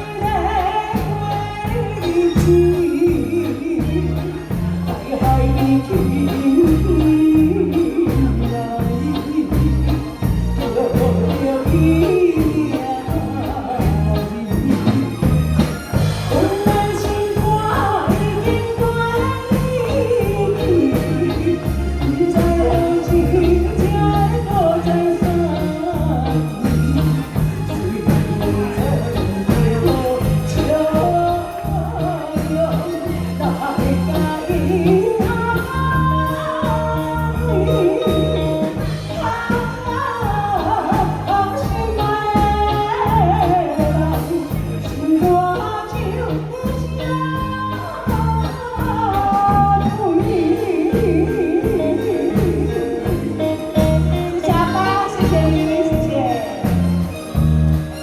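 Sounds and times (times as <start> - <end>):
woman singing: 0.0 - 58.0.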